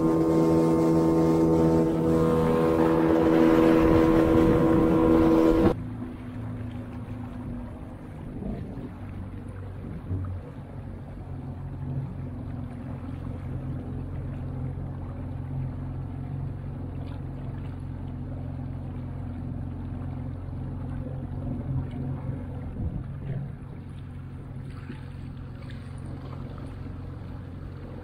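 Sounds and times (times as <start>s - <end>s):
outboard motor humming: 0.0s - 28.0s.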